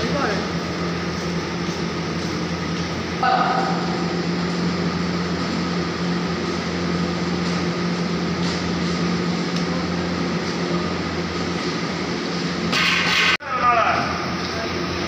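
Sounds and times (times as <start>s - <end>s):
machine humming and whirring: 0.0s - 15.0s.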